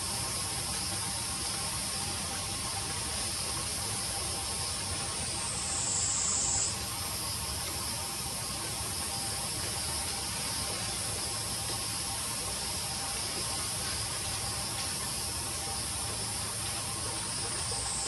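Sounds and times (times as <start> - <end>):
insect chorus hiss: 0.0 - 18.0
loud high insect buzz: 0.0 - 18.0.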